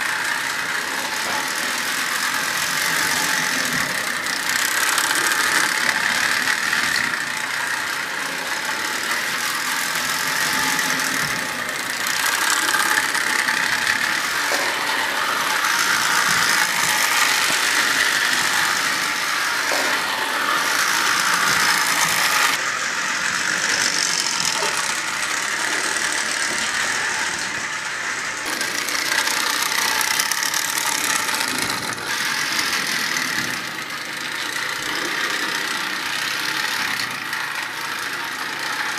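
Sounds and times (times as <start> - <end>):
toy train motor whirring: 0.0 - 38.9
wheels rattling on rails: 0.0 - 38.9.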